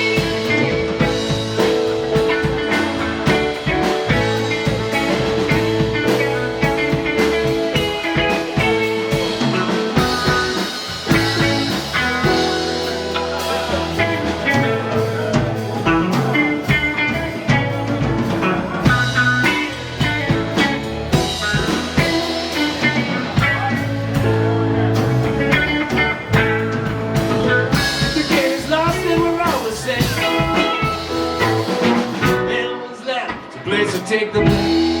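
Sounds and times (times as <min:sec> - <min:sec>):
drum kit steady beat: 0:00.0 - 0:32.7, 0:33.3 - 0:35.0
electric guitar lines: 0:00.0 - 0:32.8
bass guitar: 0:00.0 - 0:35.0.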